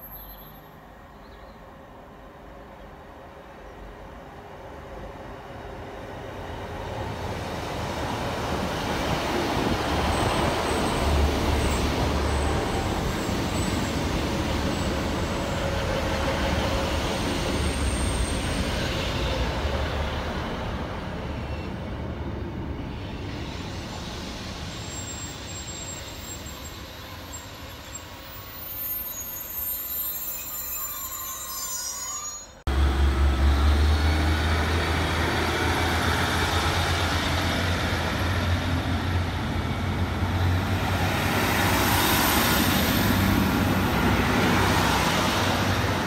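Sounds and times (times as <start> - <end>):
diesel train passing: 0.0 - 46.0.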